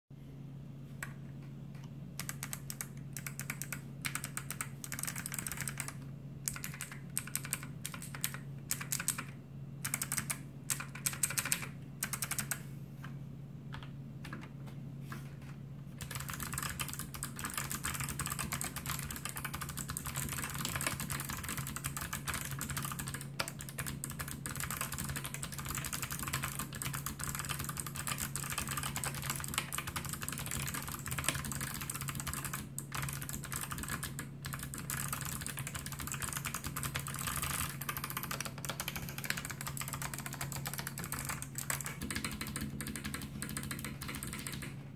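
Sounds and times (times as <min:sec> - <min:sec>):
clicky keyboard key presses: 0:01.8 - 0:12.6, 0:16.0 - 0:44.8
fast keyboard typing: 0:02.2 - 0:12.6, 0:16.0 - 0:44.8.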